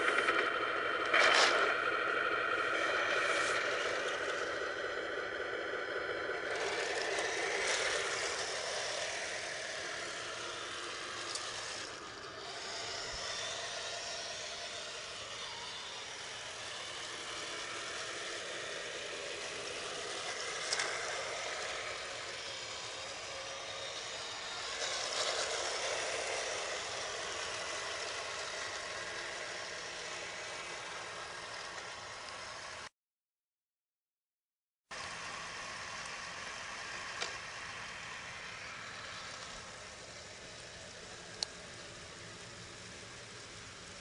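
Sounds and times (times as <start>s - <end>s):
simulated tank engine running: 0.0s - 32.9s, 34.9s - 44.0s.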